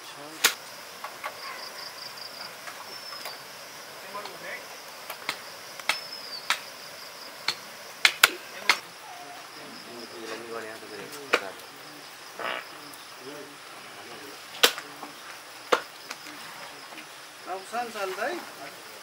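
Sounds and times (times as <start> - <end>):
insects humming: 0.0 - 19.0.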